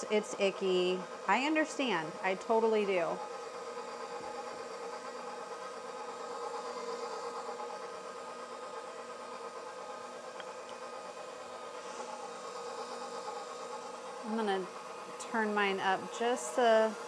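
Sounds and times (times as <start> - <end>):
stand mixer motor hum: 0.0 - 17.0.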